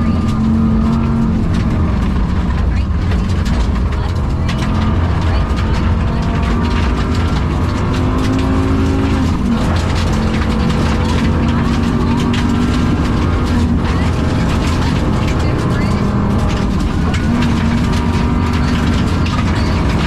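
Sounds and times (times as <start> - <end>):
car engine running hard: 0.0 - 20.0
sharp ticks and rattles: 0.0 - 20.0.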